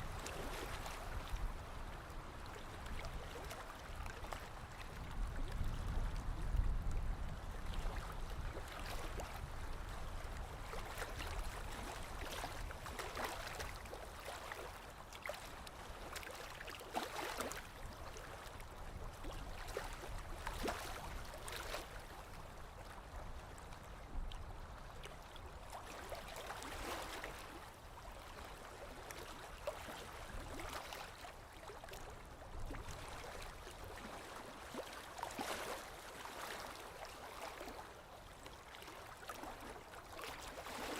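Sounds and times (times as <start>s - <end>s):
gentle water splashes: 0.0s - 40.9s
small waves lapping on shore: 0.0s - 40.9s.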